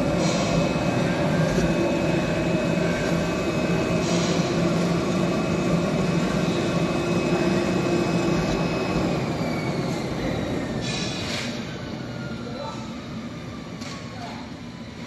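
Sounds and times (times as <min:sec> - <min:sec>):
cutting machine hum and whine: 0:00.0 - 0:15.0.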